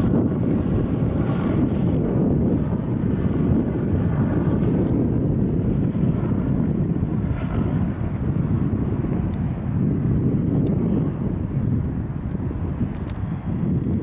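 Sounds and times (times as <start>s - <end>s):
helicopter flying past: 0.0s - 14.0s.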